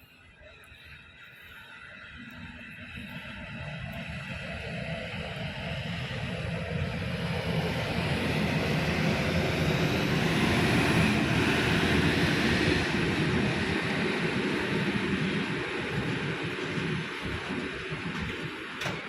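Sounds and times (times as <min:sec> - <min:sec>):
train passing rumble and hiss: 0:00.0 - 0:19.0.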